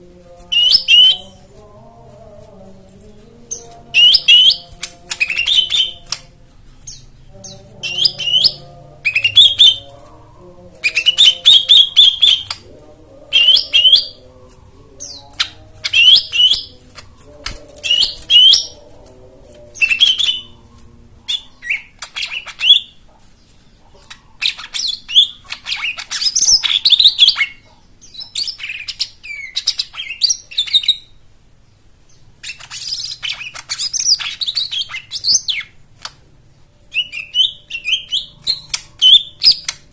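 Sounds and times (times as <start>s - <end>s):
bird singing chattering phrases: 3.5s - 6.3s, 6.9s - 10.0s, 10.8s - 18.9s, 19.7s - 31.2s, 31.8s - 35.8s, 36.9s - 39.9s.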